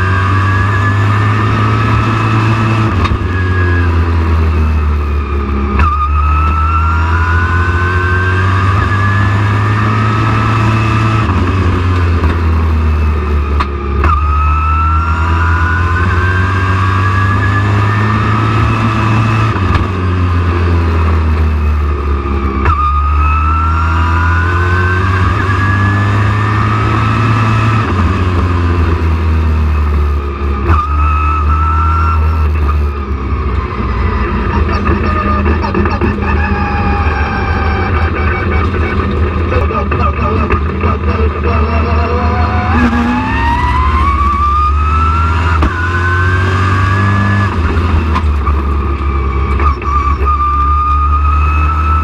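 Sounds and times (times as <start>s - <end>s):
truck engine whining: 0.0s - 52.0s.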